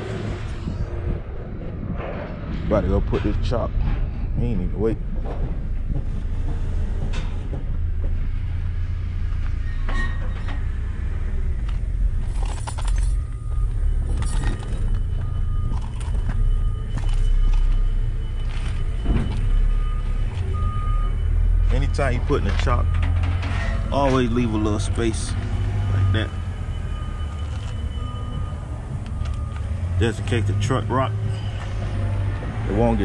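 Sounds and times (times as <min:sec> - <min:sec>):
low rumble: 0:00.0 - 0:30.5.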